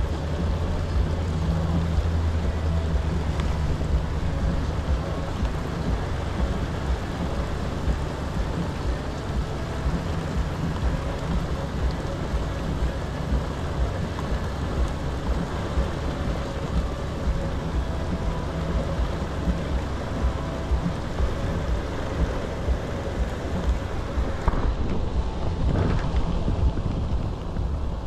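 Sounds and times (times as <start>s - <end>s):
low rumble: 0.0s - 28.0s
rain falling on kayak: 0.0s - 28.0s.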